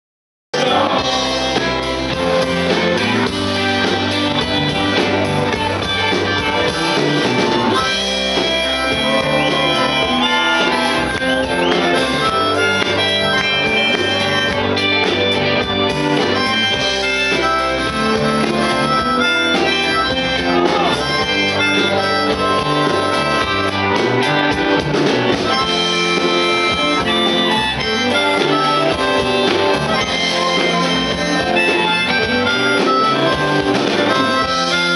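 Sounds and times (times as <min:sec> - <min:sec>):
bass guitar: 0:00.5 - 0:34.9
drums: 0:00.5 - 0:34.9
amplified harmonica: 0:00.6 - 0:34.9
electric guitars: 0:00.6 - 0:34.9.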